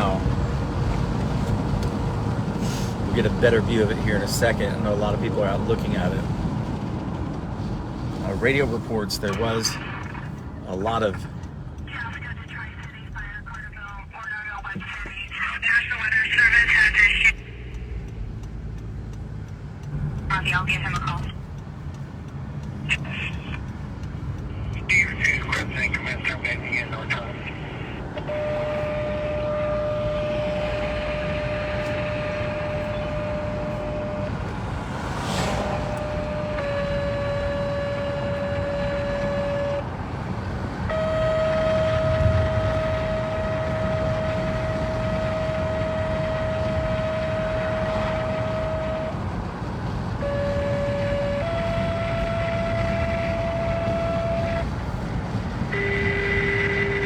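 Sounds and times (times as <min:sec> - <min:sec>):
tornado warning sirens: 0:00.0 - 0:57.0
vehicle road noise: 0:00.0 - 0:57.0.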